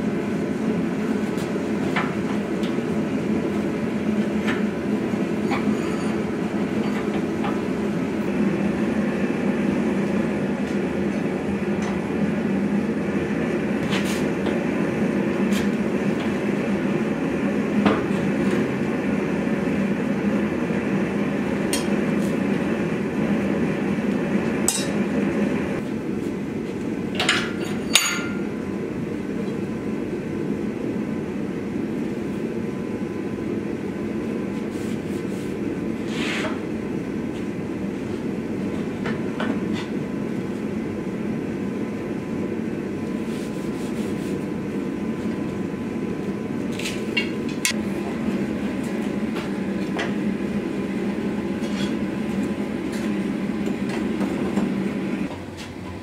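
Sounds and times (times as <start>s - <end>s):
forge burner and blower humming: 0.0s - 56.0s.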